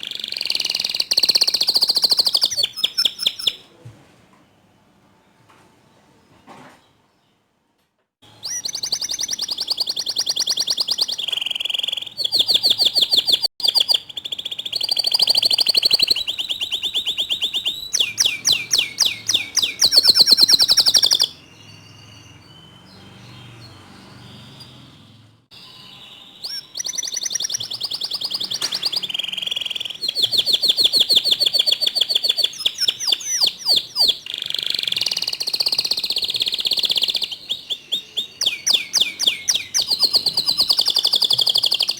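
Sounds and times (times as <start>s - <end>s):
canary singing trills: 0.0s - 3.7s, 8.2s - 41.9s.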